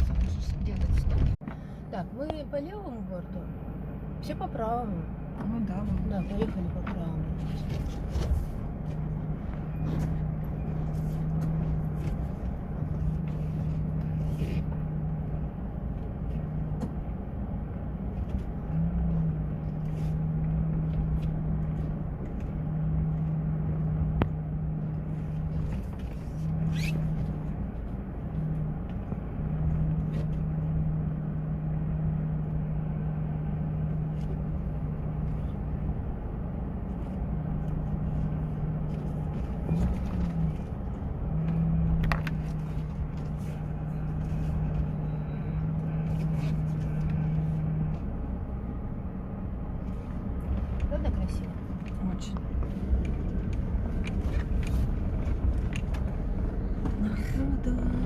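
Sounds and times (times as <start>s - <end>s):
low rumble: 0.0s - 58.0s
vehicle engine droning: 0.0s - 58.0s.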